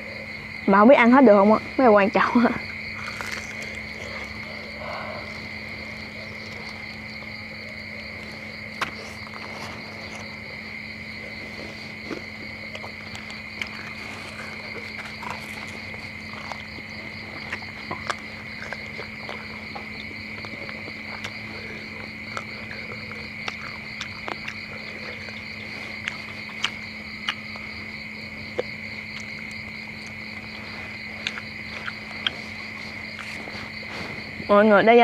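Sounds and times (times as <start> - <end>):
crickets chirring: 0.0 - 35.0
crunching while eating: 2.4 - 34.6.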